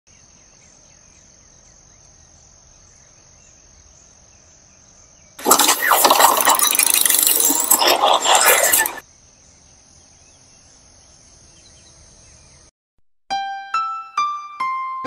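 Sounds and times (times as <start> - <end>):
crickets chirring: 0.2 - 12.5.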